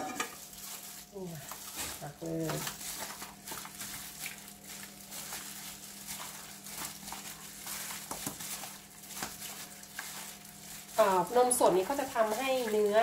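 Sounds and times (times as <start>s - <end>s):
plastic glove crinkling: 0.0s - 13.0s
wet squishing of meat: 0.4s - 13.0s.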